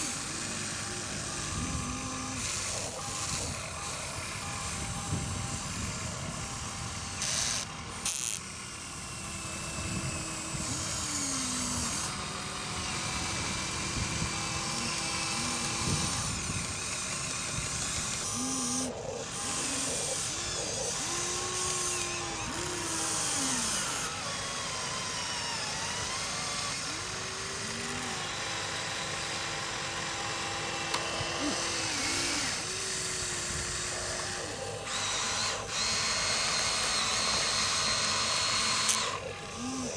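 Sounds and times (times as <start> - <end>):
small electric motors whining: 0.0 - 39.9
steady grinding hiss: 0.0 - 39.9.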